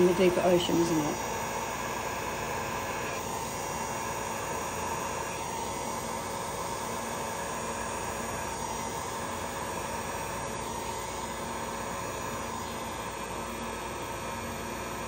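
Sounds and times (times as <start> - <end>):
heat gun blowing air: 0.0 - 15.0.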